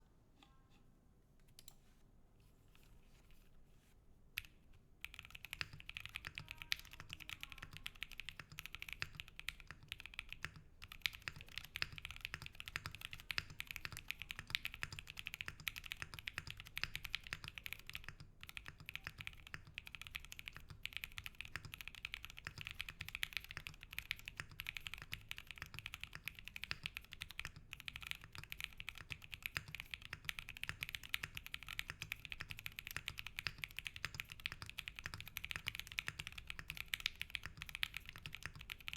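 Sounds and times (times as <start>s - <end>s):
mechanical keyboard typing: 5.0s - 38.9s.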